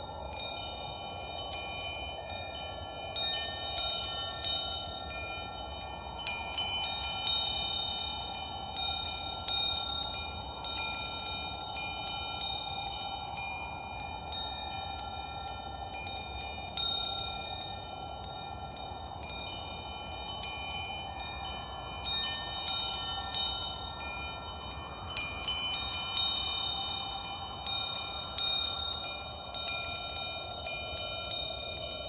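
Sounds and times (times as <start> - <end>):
wind chimes ringing: 0.0 - 32.0.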